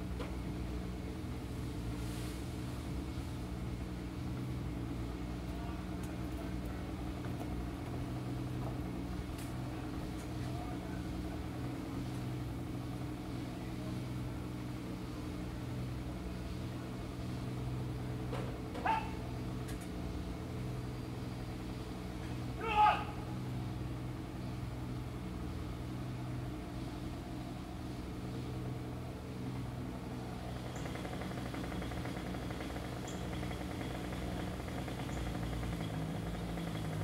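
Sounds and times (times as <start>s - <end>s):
low engine hum: 0.0s - 37.0s.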